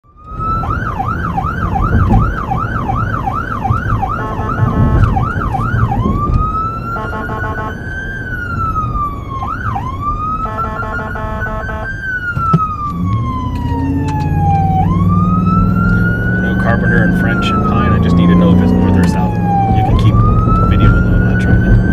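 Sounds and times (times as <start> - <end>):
electronic siren yelp and wail: 0.0 - 21.9
engine rumble: 0.0 - 21.9.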